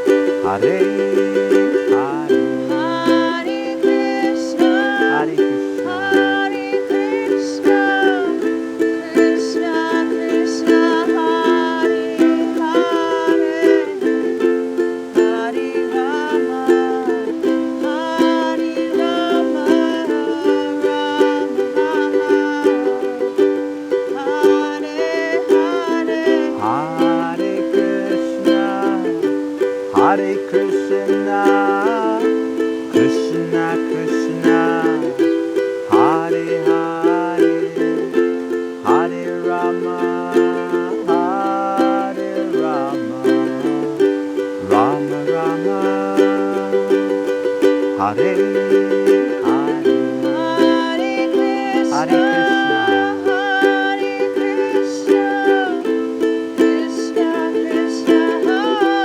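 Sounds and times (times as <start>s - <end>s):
ukulele strumming chords: 0.0s - 59.0s.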